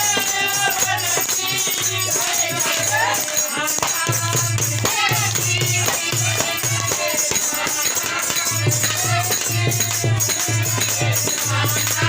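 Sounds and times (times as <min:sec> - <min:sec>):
jingling shaker percussion: 0:00.0 - 0:12.0
steady drum beat: 0:00.0 - 0:12.0.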